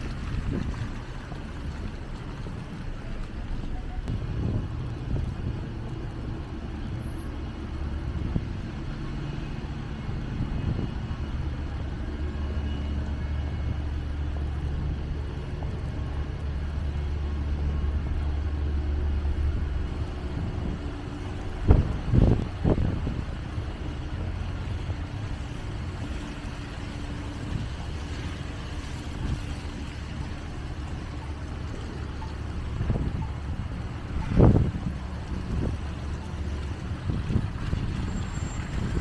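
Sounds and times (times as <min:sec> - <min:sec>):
vehicle engine rumble: 0:00.0 - 0:39.0.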